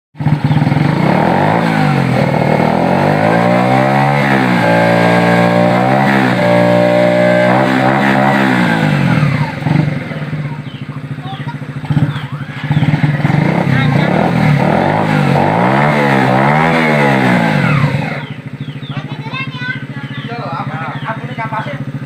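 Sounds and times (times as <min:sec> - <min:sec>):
motorcycle engine revving: 0:00.2 - 0:22.0.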